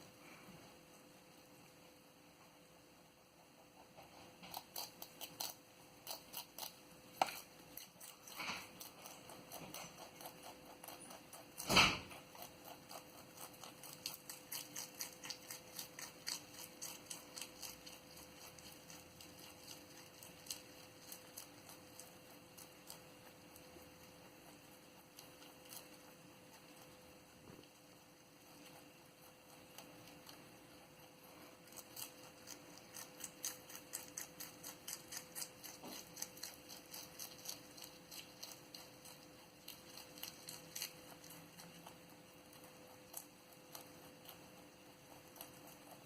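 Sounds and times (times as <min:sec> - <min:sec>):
rabbit chewing: 0:00.0 - 0:46.0.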